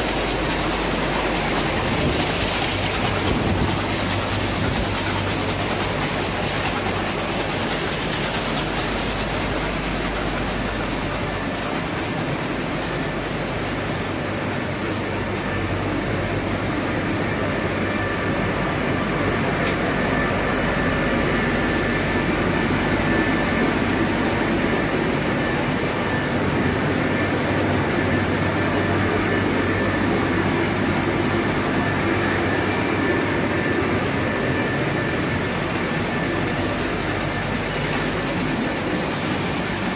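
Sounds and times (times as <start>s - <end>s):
spinning machinery running: 0.0s - 39.9s.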